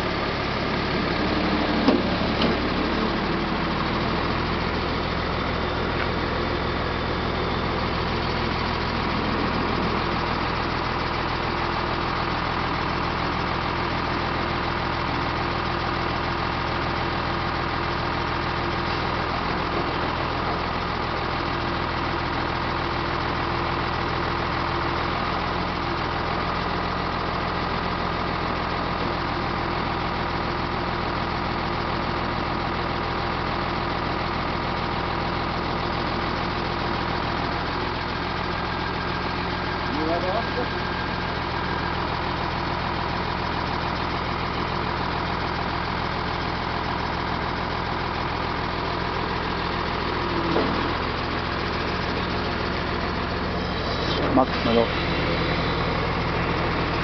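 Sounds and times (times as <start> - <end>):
hydraulic crane hum: 0.0 - 31.4, 35.6 - 57.0
diesel truck engine running: 0.0 - 57.0.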